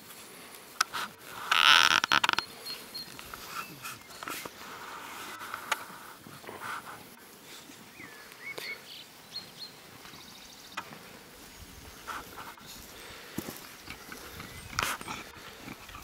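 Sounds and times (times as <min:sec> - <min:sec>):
puppies scuffling in grass: 0:00.0 - 0:16.0.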